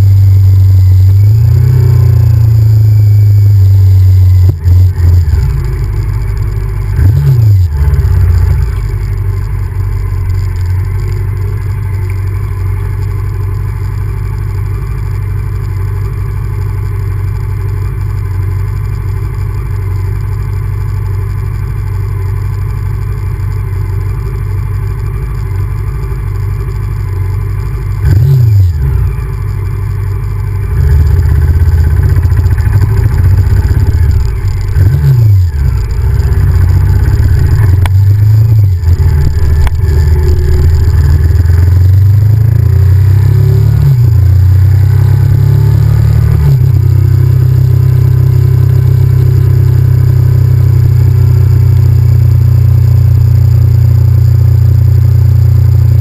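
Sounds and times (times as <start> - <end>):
motorcycle engine revving: 0.0 - 15.4, 24.5 - 56.0.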